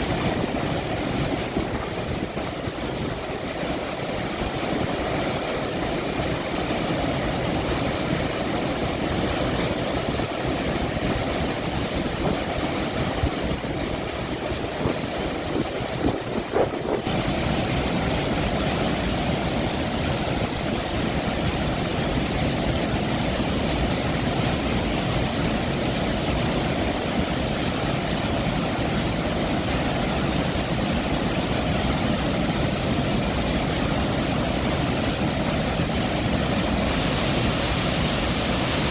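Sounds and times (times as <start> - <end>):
floodwater rushing through dam gates: 0.0 - 38.9.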